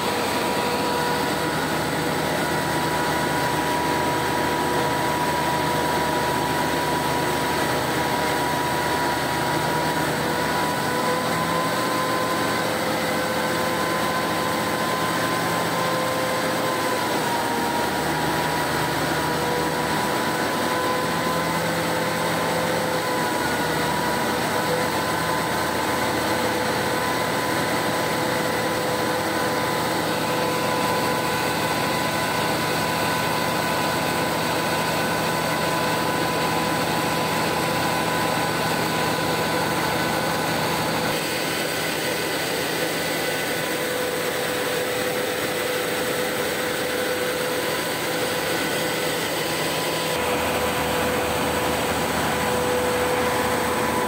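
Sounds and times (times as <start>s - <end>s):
constant machine whine: 0.0s - 54.0s
diesel engine running: 0.0s - 54.0s.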